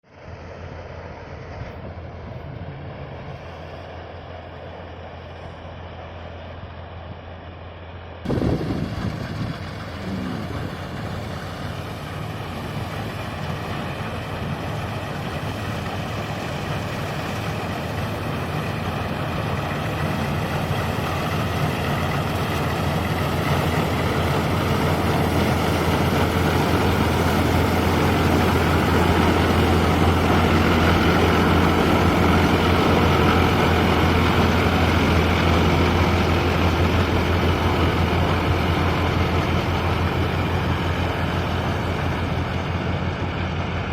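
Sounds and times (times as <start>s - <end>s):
tractor diesel engine humming: 0.2s - 43.9s.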